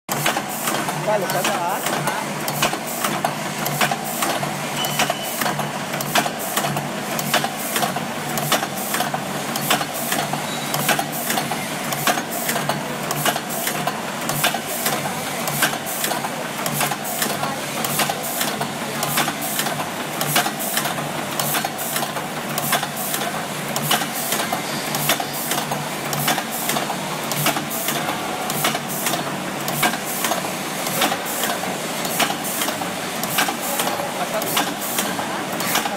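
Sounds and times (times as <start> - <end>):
machine clicking: 0.1 - 35.9.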